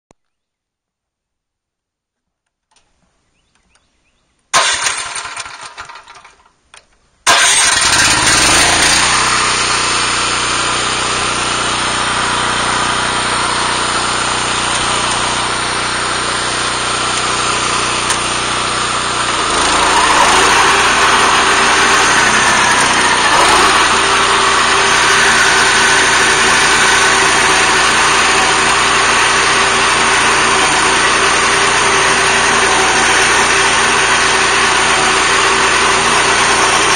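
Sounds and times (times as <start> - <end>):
gasoline engine starting and running: 4.6 - 36.9.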